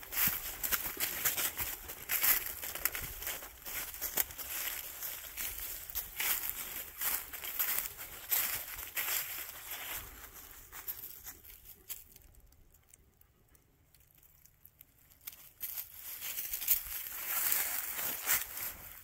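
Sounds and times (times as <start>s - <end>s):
footsteps crunching through dry leaves: 0.0s - 12.3s, 15.2s - 19.0s
leaves crackling: 0.0s - 12.4s, 14.3s - 19.0s.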